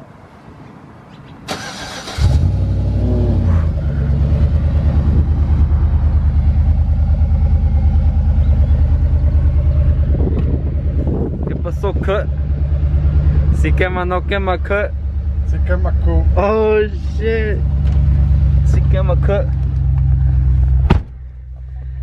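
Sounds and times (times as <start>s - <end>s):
truck engine starting and idling: 1.4s - 22.0s.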